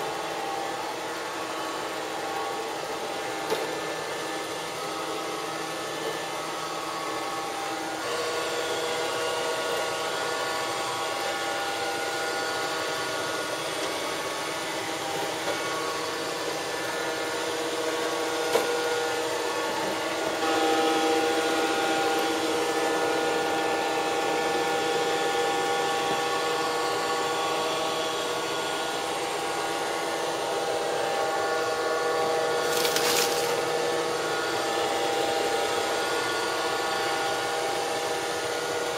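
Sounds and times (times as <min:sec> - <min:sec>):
robot vacuum cleaner whine: 0:00.0 - 0:38.9.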